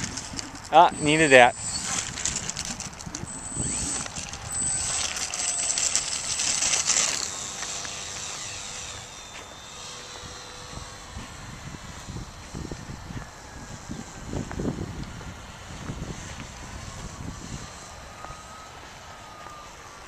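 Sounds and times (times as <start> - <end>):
electric motor and propeller whine: 0.0 - 20.0.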